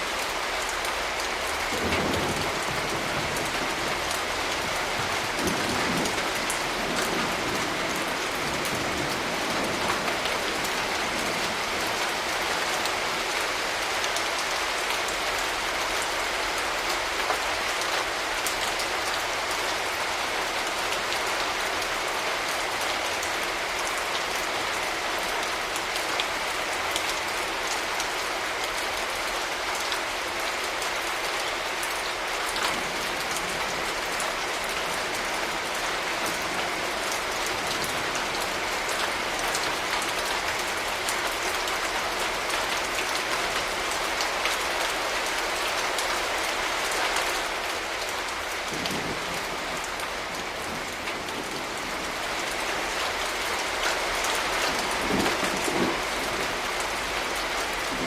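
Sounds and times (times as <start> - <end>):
raindrops ticking on surfaces: 0.0 - 58.0
steady rain hiss: 0.0 - 58.0.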